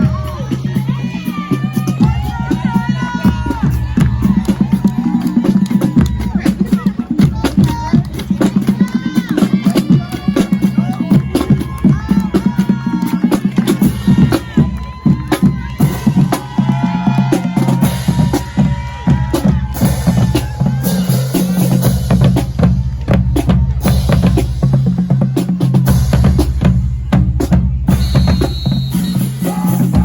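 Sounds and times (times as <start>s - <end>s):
bass drums: 0.0s - 30.0s
snare drums: 0.0s - 30.0s.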